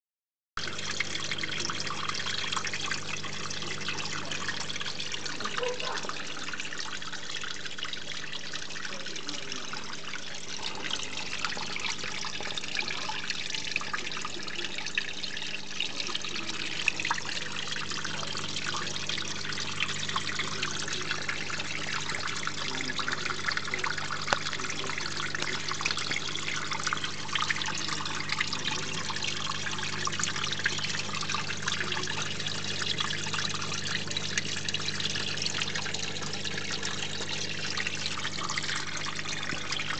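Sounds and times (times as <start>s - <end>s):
water trickling and splashing: 0.6s - 39.9s.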